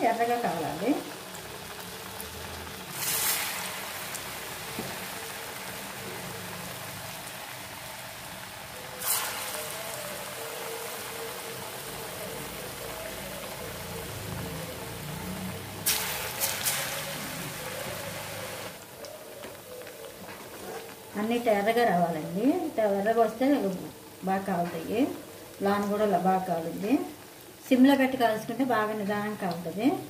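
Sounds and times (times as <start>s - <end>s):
food deep-frying in hot oil: 0.0s - 30.0s.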